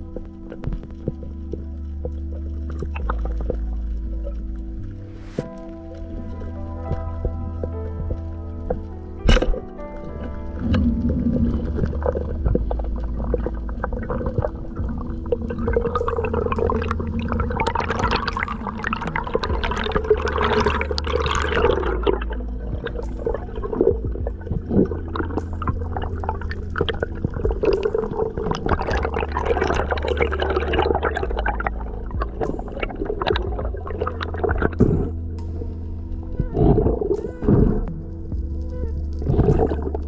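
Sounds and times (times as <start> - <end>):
constant low hum: 0.0 - 40.0
crackle of sharp clicks: 0.0 - 40.0
underwater water noise: 0.0 - 40.0.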